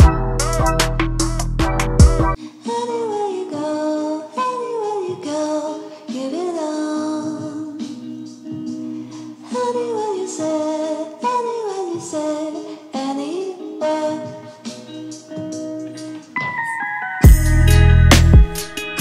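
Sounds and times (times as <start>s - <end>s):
song with singing voice: 2.3s - 19.0s.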